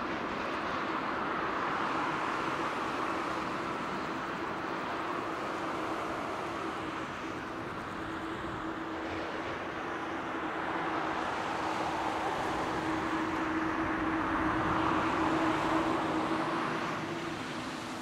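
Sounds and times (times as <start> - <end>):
jet engines rushing: 0.0 - 18.0
low engine hum: 0.0 - 18.0.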